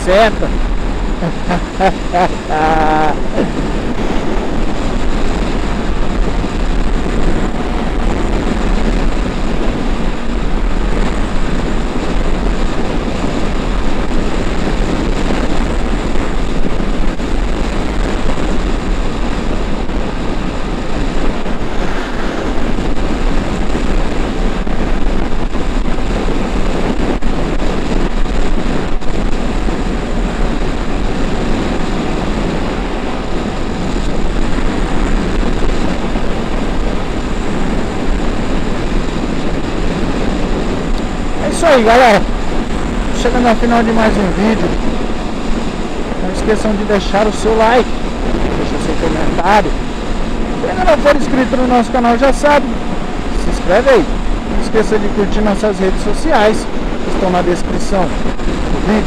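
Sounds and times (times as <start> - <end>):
motorcycle engine: 0.0 - 26.4, 27.1 - 57.2
road noise: 0.0 - 59.0
wind buffeting microphone: 0.0 - 59.0.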